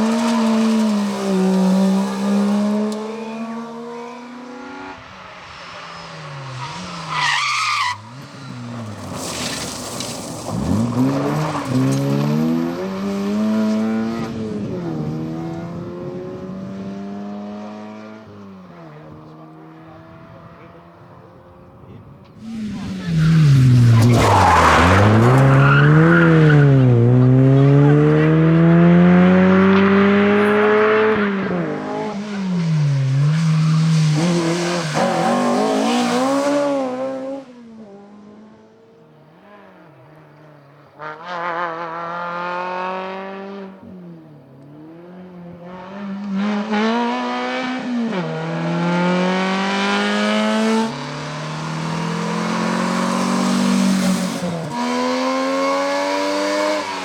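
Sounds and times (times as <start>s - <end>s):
rally car engine revving: 0.0s - 38.8s, 39.5s - 57.0s.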